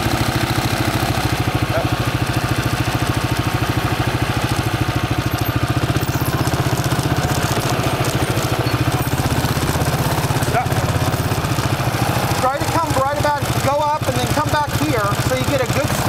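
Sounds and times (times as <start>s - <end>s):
atv engine idling: 0.0s - 16.0s.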